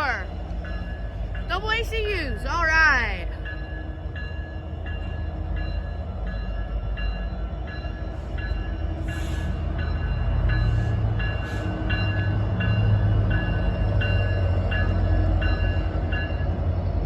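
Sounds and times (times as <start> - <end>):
diesel locomotives rumbling past: 0.0 - 17.0.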